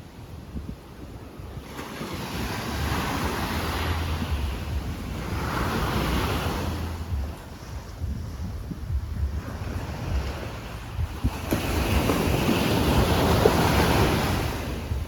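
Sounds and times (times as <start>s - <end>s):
sea surf breaking on shore: 0.0s - 15.0s
wind buffeting microphone: 0.0s - 15.0s.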